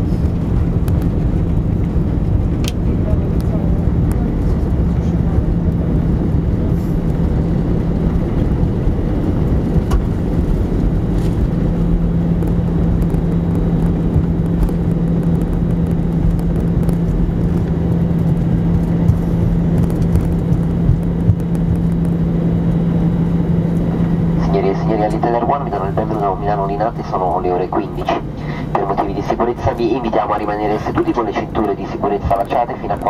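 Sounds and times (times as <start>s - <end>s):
engine and wheels rumbling: 0.0s - 33.0s
steady low hum: 0.0s - 33.0s.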